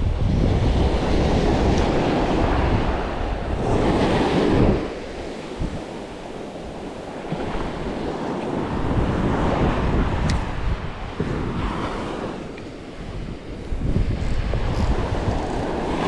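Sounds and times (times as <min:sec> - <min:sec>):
surf breaking on sand: 0:00.0 - 0:16.0
wind buffeting microphone: 0:00.0 - 0:16.0.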